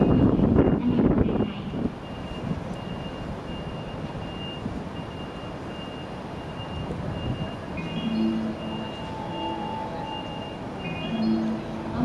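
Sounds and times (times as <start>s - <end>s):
high electronic beeps: 2.0s - 12.0s.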